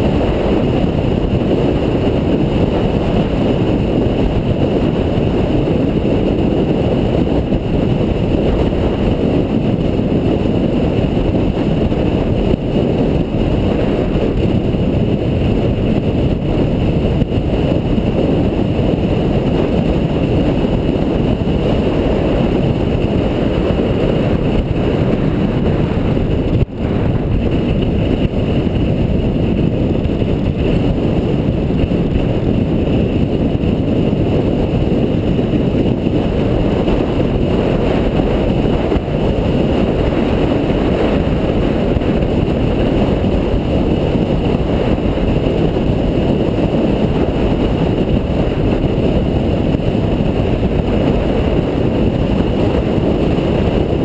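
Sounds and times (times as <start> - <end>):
car engine and tyre rumble: 0.0 - 54.0
wind on microphone: 0.0 - 54.0.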